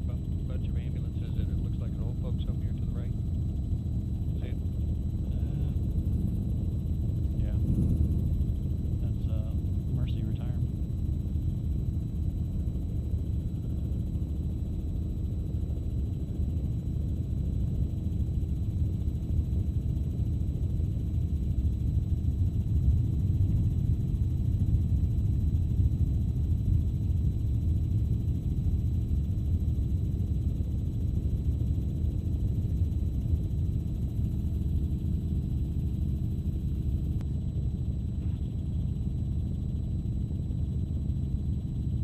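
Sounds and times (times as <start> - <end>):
helicopter rotor and engine: 0.0 - 42.0.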